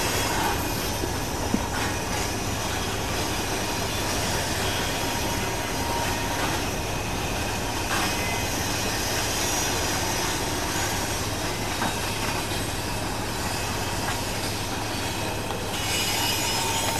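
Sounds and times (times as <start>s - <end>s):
train brakes squealing: 0.0s - 16.9s
train cars rumbling on rails: 0.0s - 16.9s.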